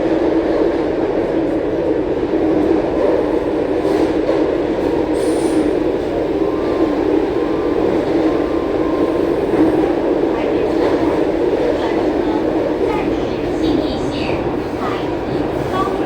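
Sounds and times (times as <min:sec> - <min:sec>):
train wheels rumbling: 0:00.3 - 0:16.0.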